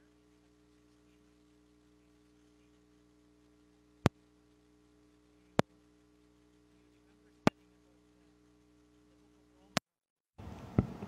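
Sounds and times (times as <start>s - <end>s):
sound system electrical hum: 0.0s - 9.8s, 10.4s - 11.0s.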